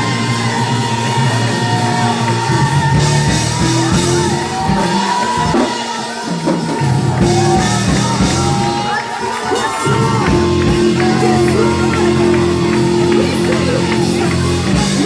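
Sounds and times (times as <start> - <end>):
held ringing chords: 0.0 - 15.0
voices singing and shouting: 0.0 - 15.0.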